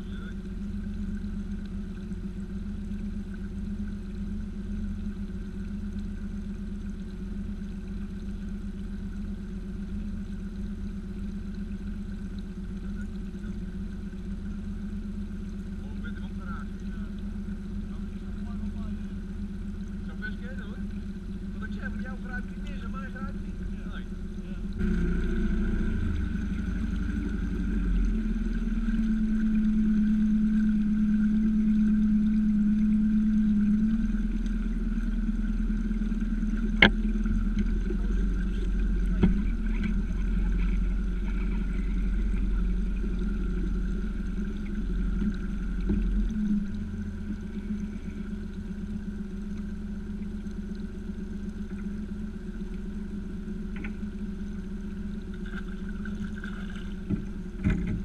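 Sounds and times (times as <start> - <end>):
boat motor humming: 0.0 - 58.0.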